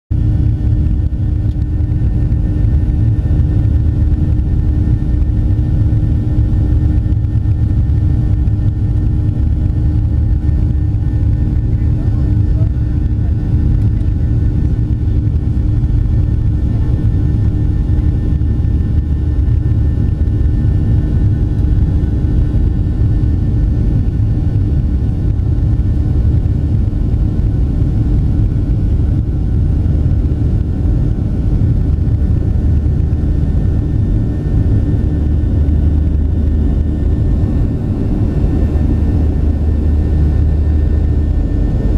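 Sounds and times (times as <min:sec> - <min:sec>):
constant hum: 0:00.1 - 0:41.9
jet cabin engine rumble: 0:00.1 - 0:41.9.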